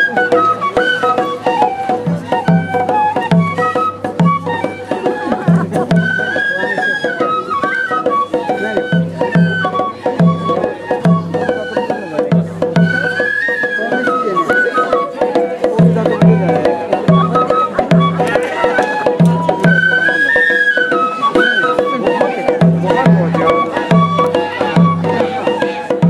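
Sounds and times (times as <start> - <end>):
bamboo flute melody: 0.0 - 26.0
drum beats: 0.0 - 26.0
light clicking percussion: 0.0 - 26.0.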